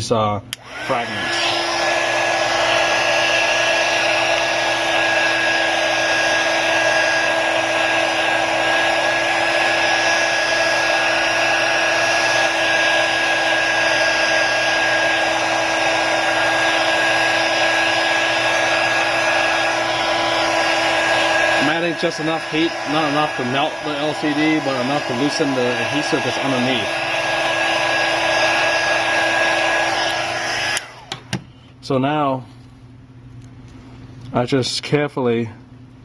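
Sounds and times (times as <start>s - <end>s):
hot-air blower whining: 0.0s - 32.6s.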